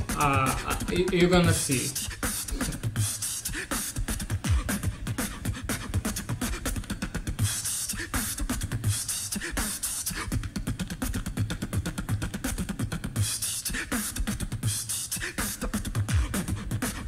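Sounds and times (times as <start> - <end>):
looped beatboxing: 0.0 - 17.0.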